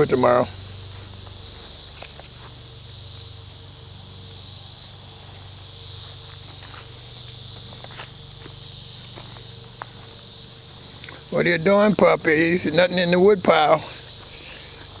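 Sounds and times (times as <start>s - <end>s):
high-pitched insect chorus: 0.0s - 15.0s
steady low hum: 0.0s - 15.0s.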